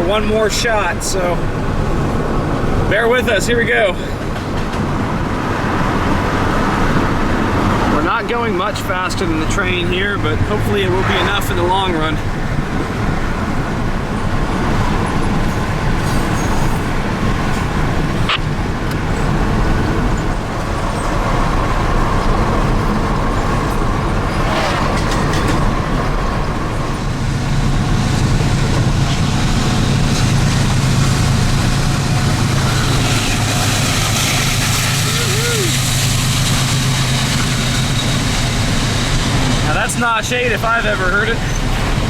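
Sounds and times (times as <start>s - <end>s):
car road and engine noise: 0.0s - 42.0s.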